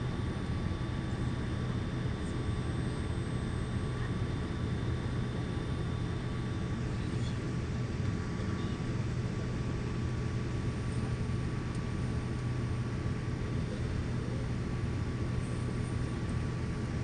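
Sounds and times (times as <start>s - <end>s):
aircraft cabin drone: 0.0s - 17.0s.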